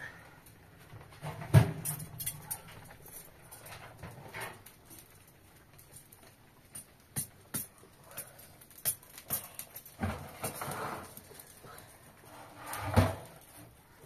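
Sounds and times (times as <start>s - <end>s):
wood fire crackling in stove: 0.0s - 14.0s.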